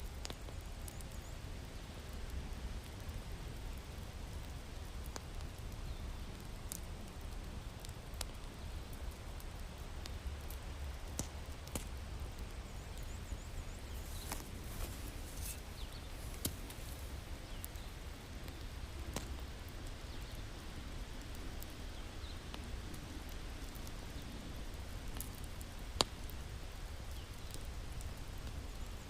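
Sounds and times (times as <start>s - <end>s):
wood fire crackling: 0.0s - 29.0s
fire pops: 2.2s - 20.4s, 22.4s - 28.8s.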